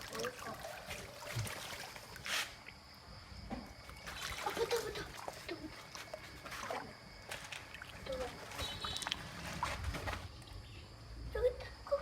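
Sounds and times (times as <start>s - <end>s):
water splashing and trickling: 0.0s - 2.9s, 3.7s - 10.7s.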